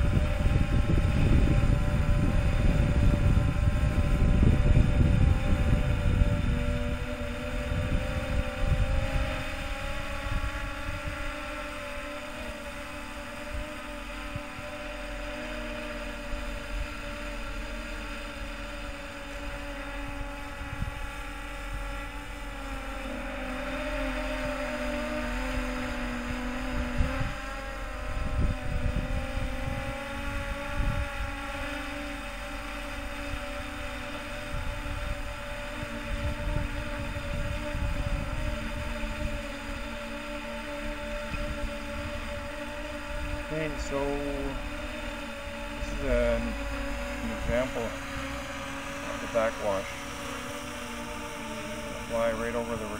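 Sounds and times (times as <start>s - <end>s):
drone propellers buzzing: 0.0s - 52.9s
wind rumbling on microphone: 0.0s - 52.9s.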